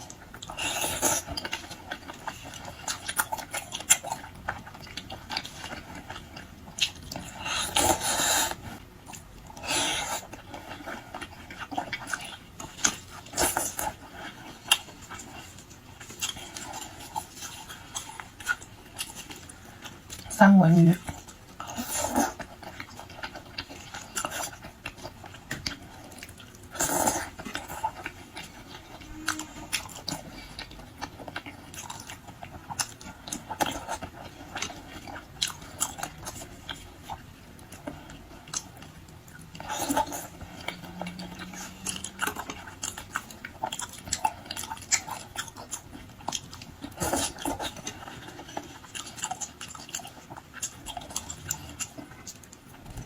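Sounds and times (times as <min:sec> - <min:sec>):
person chewing with wet mouth clicks: 0:00.0 - 0:20.3, 0:21.0 - 0:53.0.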